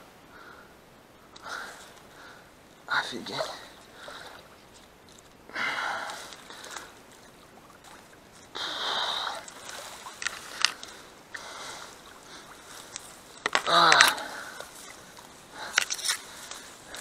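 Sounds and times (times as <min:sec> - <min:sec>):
water sloshing: 0:01.6 - 0:17.0.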